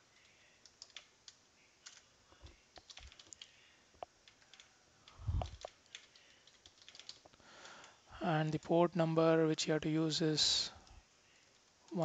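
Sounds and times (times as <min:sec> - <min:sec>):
faint keyboard typing: 0:00.0 - 0:09.3, 0:10.6 - 0:12.0.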